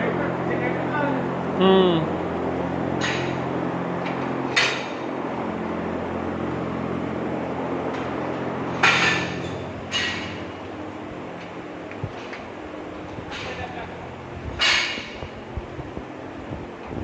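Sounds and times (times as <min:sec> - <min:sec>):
cooling system humming: 0:00.0 - 0:17.0.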